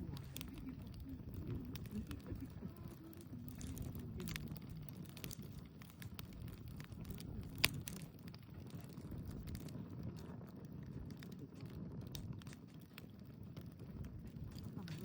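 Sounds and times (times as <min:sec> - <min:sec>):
campfire crackling: 0:00.0 - 0:15.0
low fire rumble: 0:00.0 - 0:15.0
sharp fire pops: 0:00.0 - 0:15.0.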